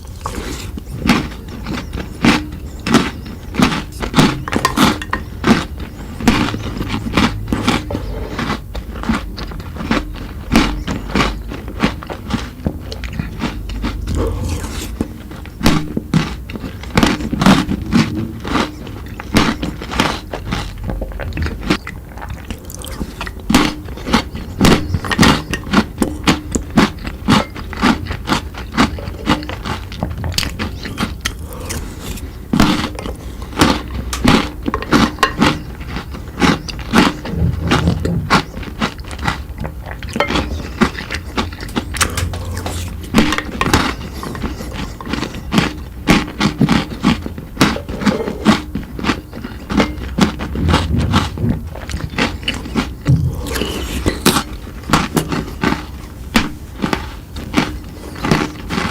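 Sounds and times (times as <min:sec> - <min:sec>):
chewing crunchy chocolate sweets: 0:00.0 - 0:58.9.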